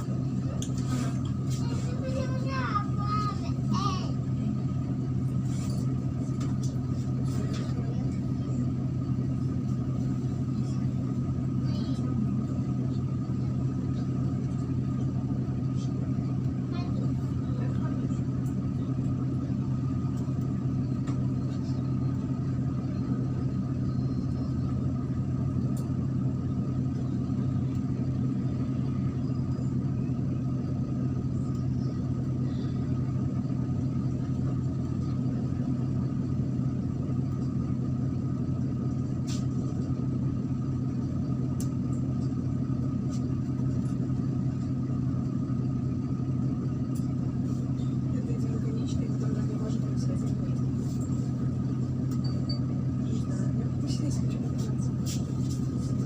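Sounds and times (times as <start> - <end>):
diesel engine drone: 0.0 - 56.0
road rumble: 0.0 - 56.0.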